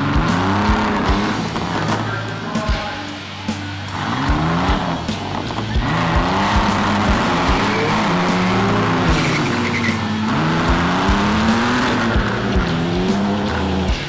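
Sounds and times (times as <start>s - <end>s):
car engines revving: 0.0s - 14.0s
music with thumping beat: 0.0s - 14.0s.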